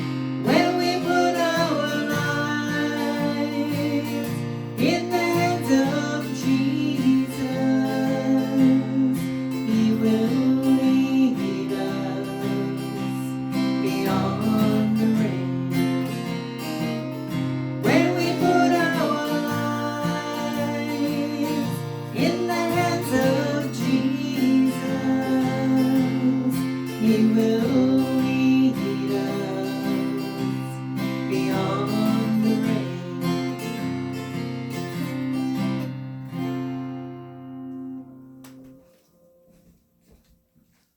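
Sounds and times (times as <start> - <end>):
acoustic guitar gospel music: 0.0 - 40.8.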